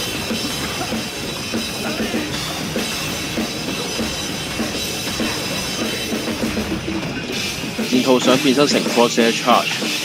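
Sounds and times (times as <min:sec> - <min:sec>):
drum kit beat: 0:00.0 - 0:10.0
rock music: 0:00.0 - 0:10.0.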